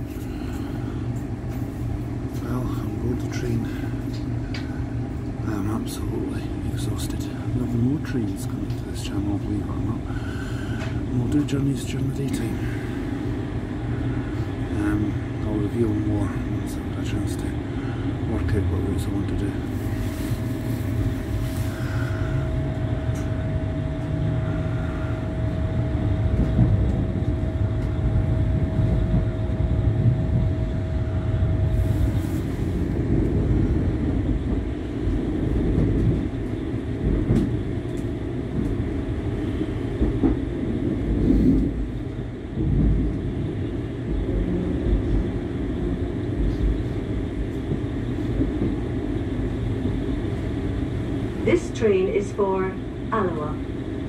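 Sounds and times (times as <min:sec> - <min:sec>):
thin steady whine: 0:00.0 - 0:54.0
train wheels rumbling: 0:00.0 - 0:54.0.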